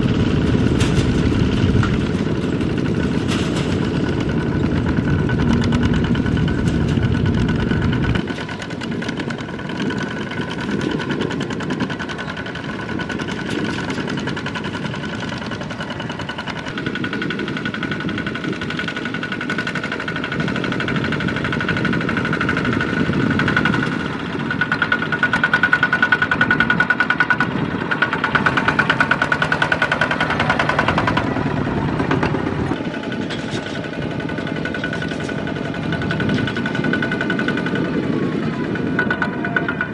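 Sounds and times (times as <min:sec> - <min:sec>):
diesel tractor engines chugging: 0:00.0 - 0:39.9.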